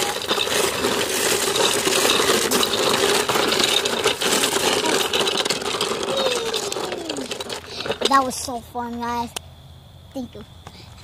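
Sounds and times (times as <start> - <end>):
bicycle rattling and clattering: 0.0 - 9.3.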